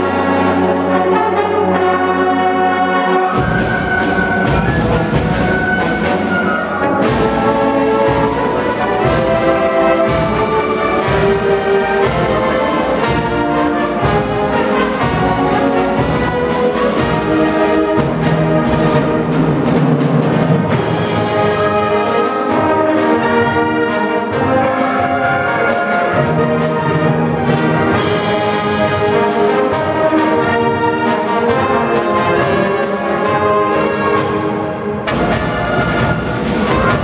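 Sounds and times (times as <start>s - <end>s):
concert wind band playing: 0.0s - 37.0s.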